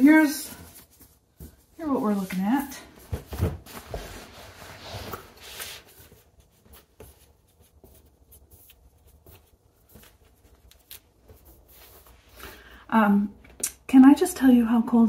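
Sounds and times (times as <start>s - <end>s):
rustling and scraping: 0.0s - 12.6s.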